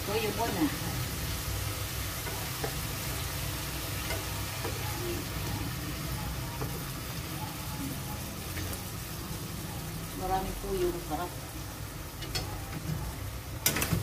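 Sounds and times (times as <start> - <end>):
chicken sizzling in a pot: 0.0 - 14.0.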